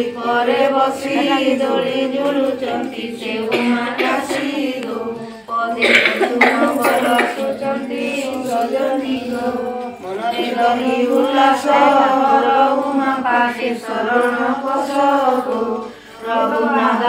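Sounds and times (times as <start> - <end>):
devotional hymn chanting: 0.0 - 17.0.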